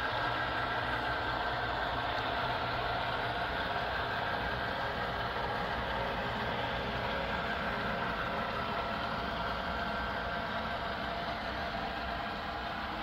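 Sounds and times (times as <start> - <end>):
locomotive engine through small speaker: 0.0 - 13.0.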